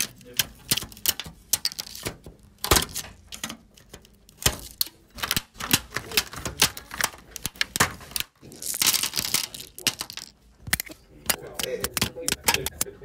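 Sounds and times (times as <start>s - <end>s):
scraper prying plastic caps clicking: 0.0s - 12.9s.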